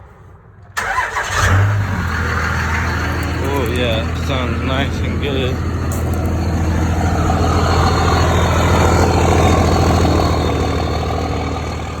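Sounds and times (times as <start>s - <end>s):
truck engine idling: 0.8s - 12.0s.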